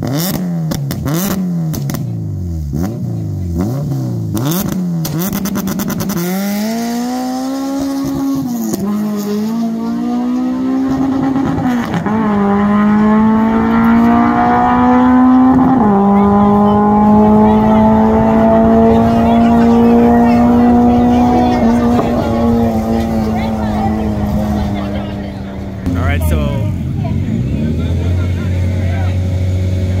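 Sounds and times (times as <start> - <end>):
car engine revving and accelerating: 0.0 - 30.0.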